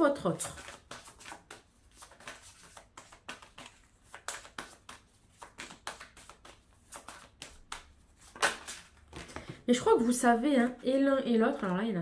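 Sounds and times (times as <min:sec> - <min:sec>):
cards being shuffled: 0:00.4 - 0:09.6, 0:11.4 - 0:12.0.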